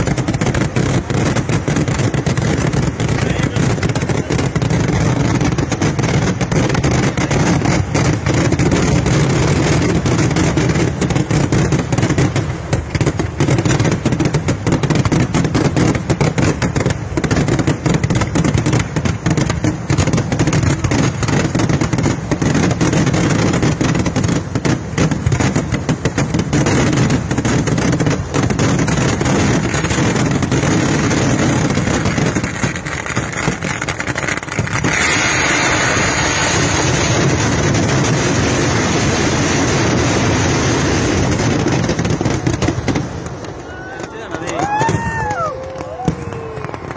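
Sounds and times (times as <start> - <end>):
fireworks barrage: 0.0 - 46.9.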